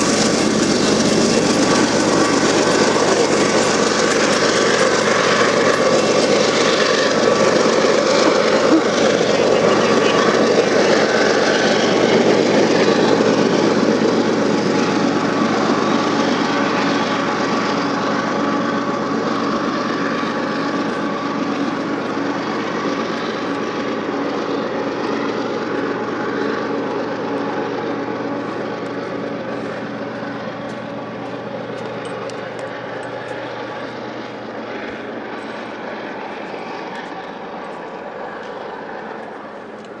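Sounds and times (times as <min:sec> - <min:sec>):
diesel locomotive engine drone: 0:00.0 - 0:40.0
freight train running past: 0:00.0 - 0:40.0.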